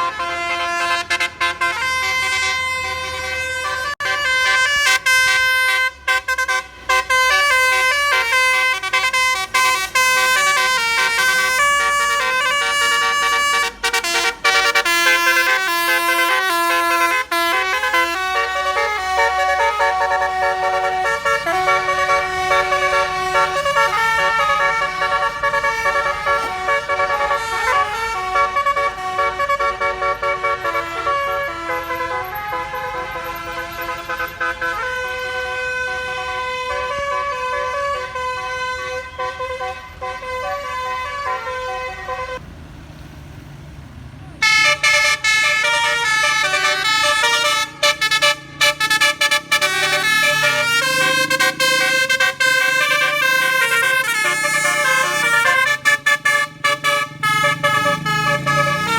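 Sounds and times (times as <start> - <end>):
bus air horn melody: 0.0 - 42.4, 44.4 - 58.9.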